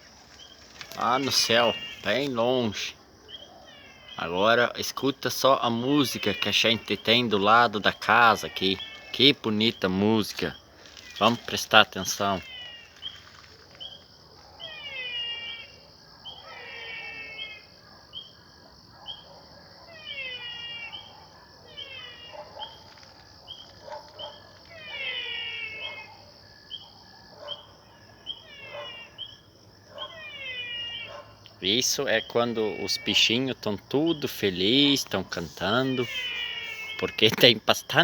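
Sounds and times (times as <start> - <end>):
distant dogs barking: 0.0 - 13.1, 13.8 - 37.3
crickets trilling: 0.0 - 38.0
frogs chirping: 0.0 - 38.0.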